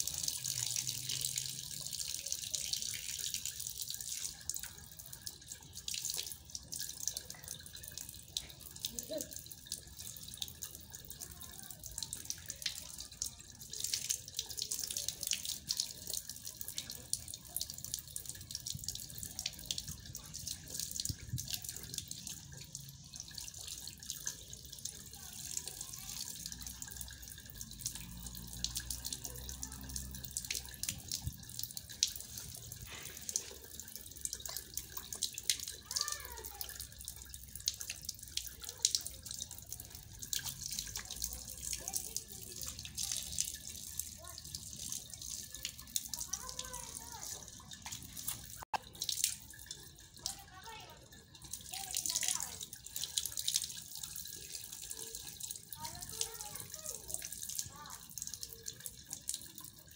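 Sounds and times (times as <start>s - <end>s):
water splashing on tiled floor: 0.0s - 59.9s.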